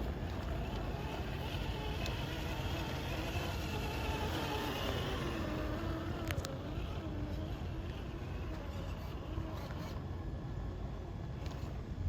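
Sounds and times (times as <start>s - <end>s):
electric motor and gearbox whining: 0.0s - 10.1s.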